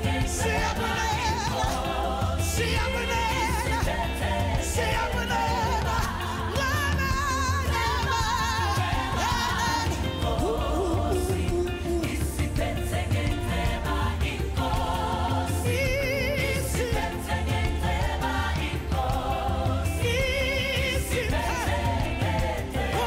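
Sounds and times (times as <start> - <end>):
gospel band playing live: 0.0 - 23.0
singers with vibrato: 0.0 - 23.0.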